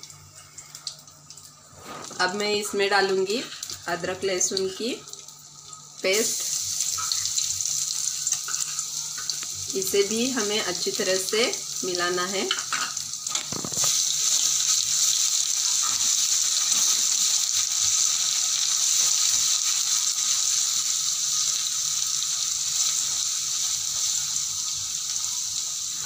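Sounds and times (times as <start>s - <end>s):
paste sizzling in hot oil: 1.7s - 26.0s.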